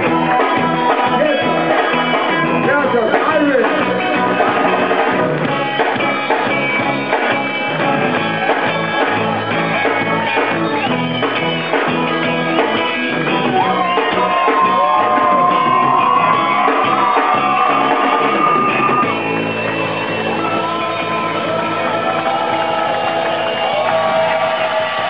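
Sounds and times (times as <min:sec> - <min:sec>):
reggae band playing live: 0:00.0 - 0:20.6.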